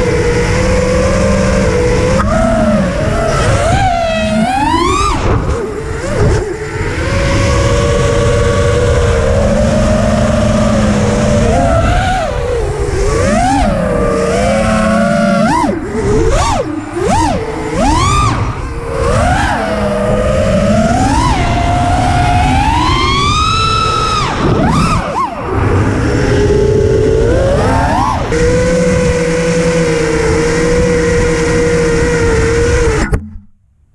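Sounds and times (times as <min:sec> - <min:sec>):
quadcopter motors screaming: 0:00.0 - 0:33.2
wind rush on microphone: 0:00.0 - 0:33.2.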